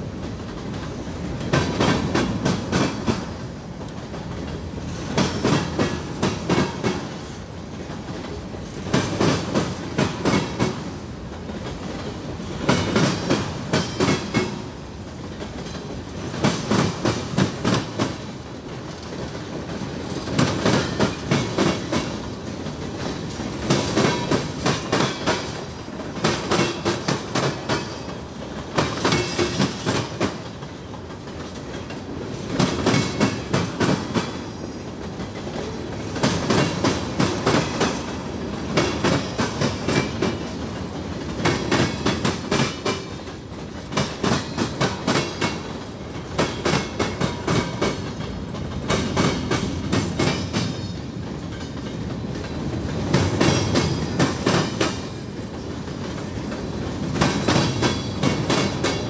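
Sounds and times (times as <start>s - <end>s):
train rolling rumble: 0.0s - 59.0s
train wheels clacking on track: 0.0s - 59.0s.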